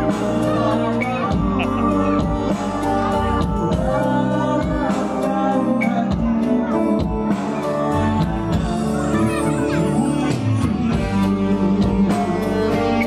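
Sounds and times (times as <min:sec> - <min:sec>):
electric guitar: 0:00.0 - 0:13.0
keyboard: 0:00.0 - 0:13.0
steady drum beat: 0:00.0 - 0:13.0.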